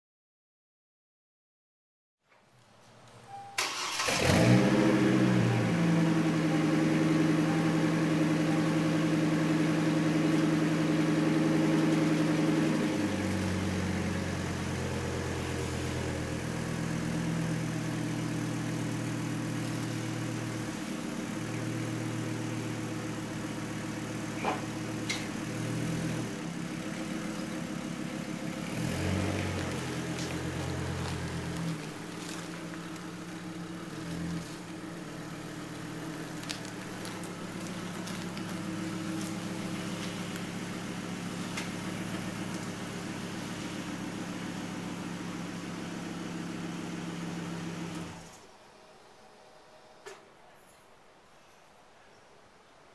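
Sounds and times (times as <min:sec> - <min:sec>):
truck engine idling: 0:05.4 - 0:48.3.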